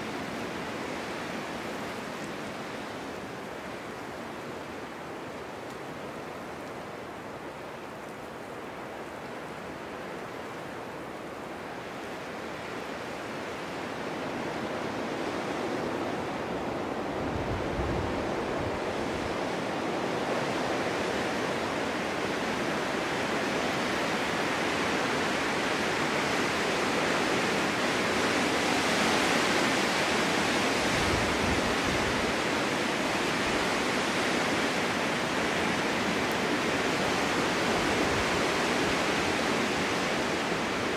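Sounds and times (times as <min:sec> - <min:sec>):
snowstorm wind through forest: 0:00.0 - 0:40.9.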